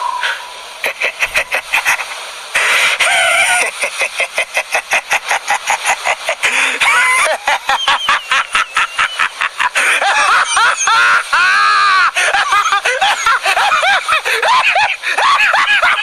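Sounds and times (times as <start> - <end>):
man laughing manically: 0.8 - 16.0.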